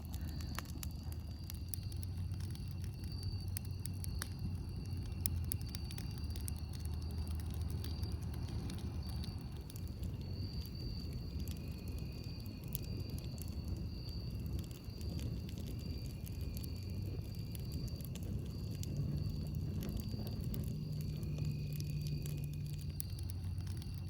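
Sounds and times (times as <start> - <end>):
campfire crackling and popping: 0.0 - 24.0
steady low rumble: 0.0 - 24.0.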